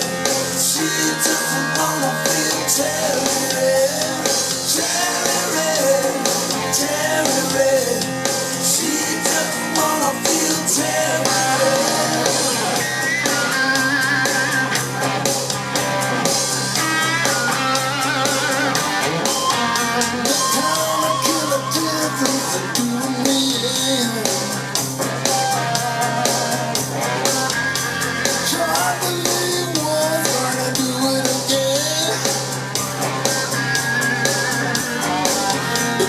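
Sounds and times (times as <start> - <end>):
rock song over loudspeakers: 0.0 - 36.0.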